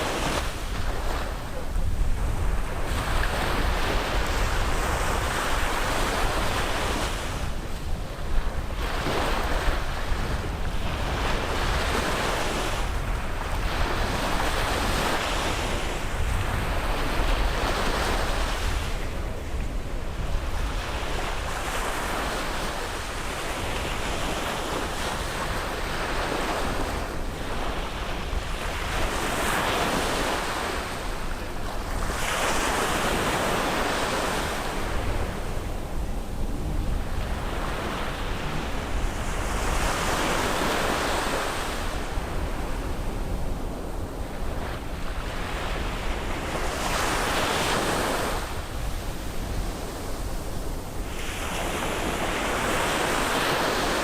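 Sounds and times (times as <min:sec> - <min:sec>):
sea waves breaking on beach: 0:00.0 - 0:54.0
wind rumble on microphone: 0:00.0 - 0:54.0.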